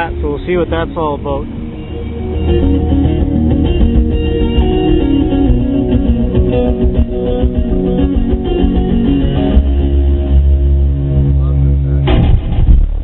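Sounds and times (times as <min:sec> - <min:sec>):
loud guitar music: 0:00.0 - 0:12.9
heavy subwoofer bass: 0:02.1 - 0:13.0.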